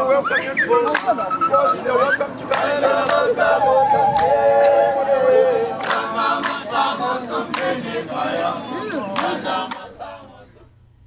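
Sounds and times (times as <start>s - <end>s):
group singing without instruments: 1.7s - 10.7s.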